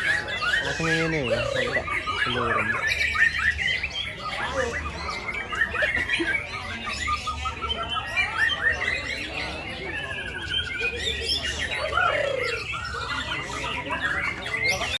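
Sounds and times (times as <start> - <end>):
rapid bird trill: 0.0 - 15.0
songbirds chirping: 0.0 - 15.0.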